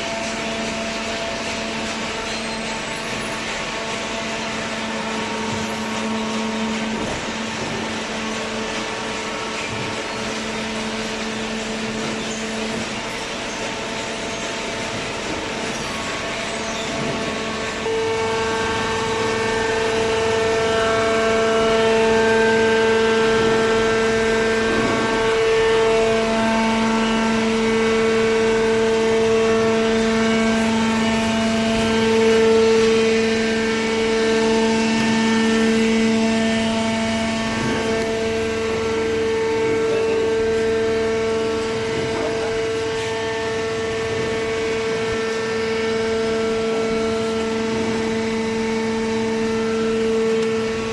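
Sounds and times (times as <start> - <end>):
baling machine humming: 0.0 - 50.9.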